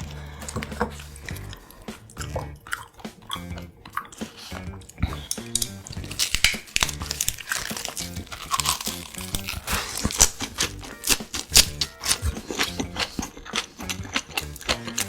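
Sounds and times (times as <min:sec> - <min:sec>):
background music: 0:00.0 - 0:15.0
chewing with crisp crunches: 0:00.0 - 0:15.0.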